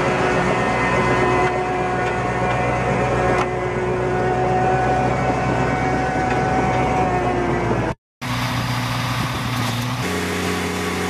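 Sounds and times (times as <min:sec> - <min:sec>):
heavy machine engine drone: 0:00.0 - 0:11.0
steady machine whine: 0:00.0 - 0:11.0.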